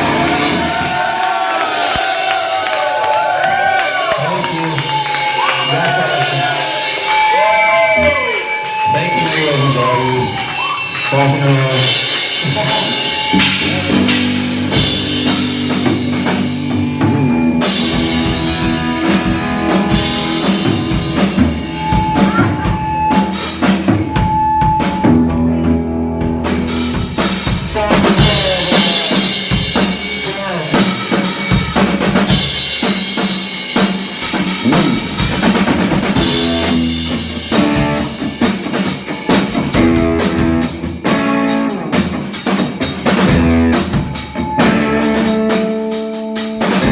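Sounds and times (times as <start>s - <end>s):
live band playing: 0.0s - 46.9s.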